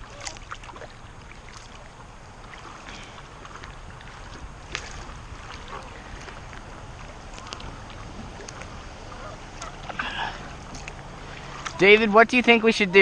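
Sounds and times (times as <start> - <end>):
small splashes and ticks: 0.0 - 11.8
water washing: 0.0 - 13.0.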